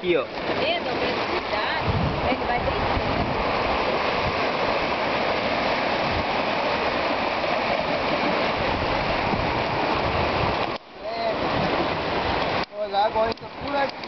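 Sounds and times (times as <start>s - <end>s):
seawater rushing over rocks: 0.0s - 14.0s.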